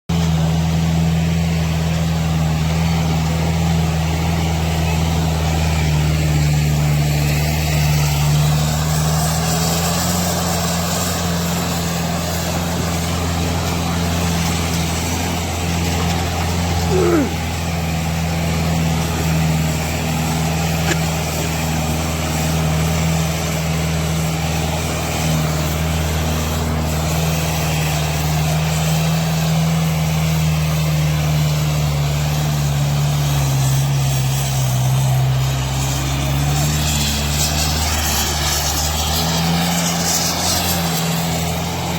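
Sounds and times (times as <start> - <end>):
tractor diesel engine running: 0.1 - 41.9.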